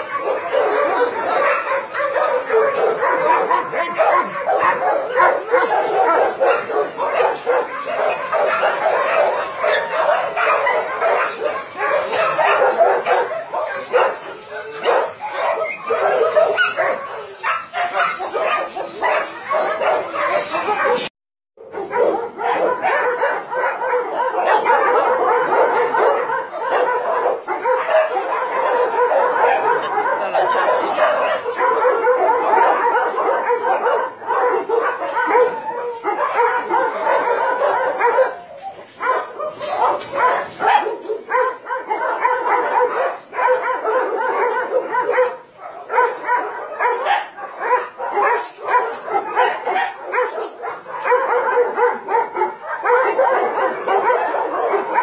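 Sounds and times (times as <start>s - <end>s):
many dogs barking and yelping: 0.0s - 55.0s.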